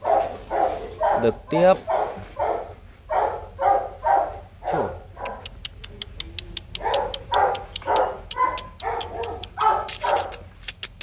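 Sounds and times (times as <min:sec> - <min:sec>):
puppy yelping: 0:00.0 - 0:05.9, 0:06.6 - 0:11.0.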